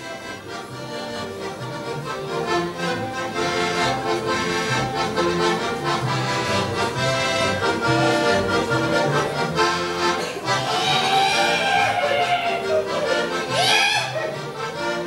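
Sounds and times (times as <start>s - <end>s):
accordion playing folk dance tune: 0.0s - 15.0s.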